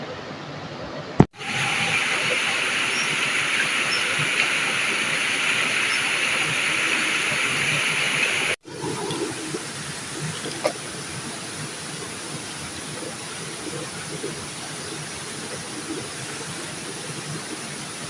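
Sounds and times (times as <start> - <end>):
river water rushing: 1.4 - 18.0.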